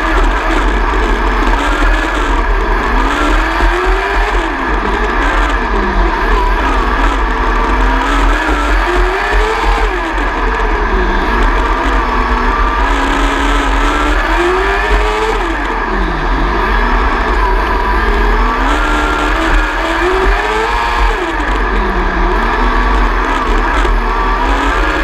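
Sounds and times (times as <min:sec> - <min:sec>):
constant low rumble: 0:00.0 - 0:25.0
racing motorcycle engine revving: 0:00.0 - 0:25.0.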